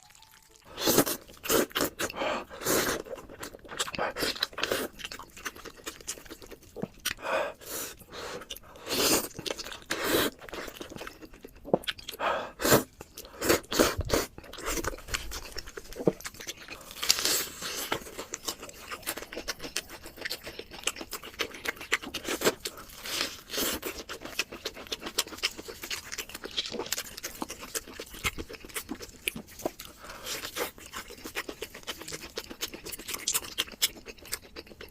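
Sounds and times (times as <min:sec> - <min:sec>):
crunching and chewing crisp food: 0:00.0 - 0:34.9.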